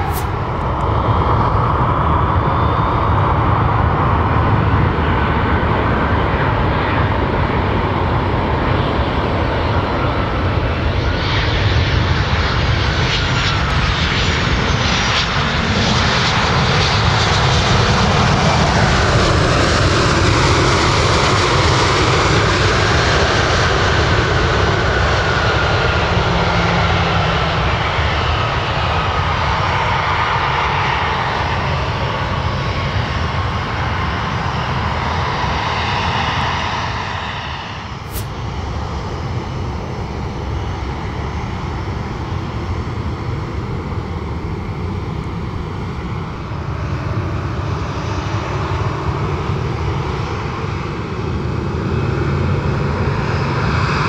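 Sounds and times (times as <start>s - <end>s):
airliner engines idling on ground: 0.0s - 54.0s
jet engine whine spooling down: 0.0s - 54.0s
jet engines roaring: 0.0s - 54.0s.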